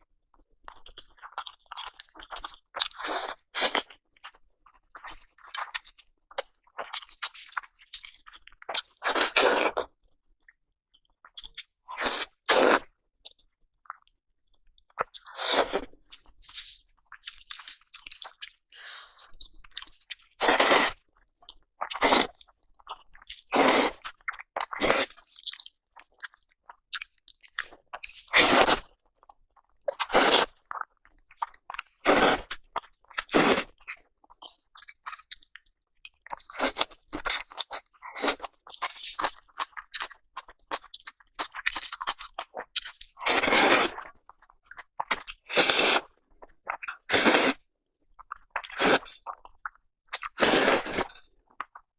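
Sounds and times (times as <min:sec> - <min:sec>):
soft chewing: 0:00.3 - 0:51.9
person crunching food: 0:00.7 - 0:09.9, 0:14.9 - 0:47.6, 0:48.2 - 0:51.8.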